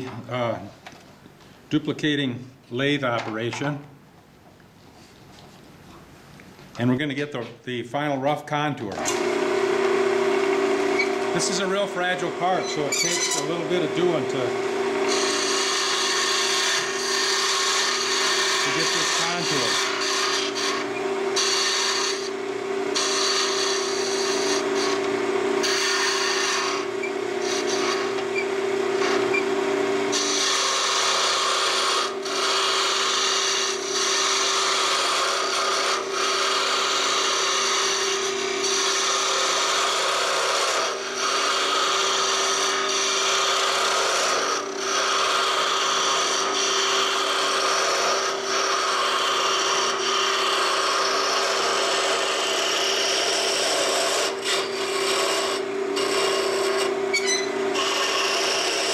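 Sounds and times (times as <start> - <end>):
cutter shaving wood: 9.0 - 58.9
lathe motor hum: 9.0 - 58.9.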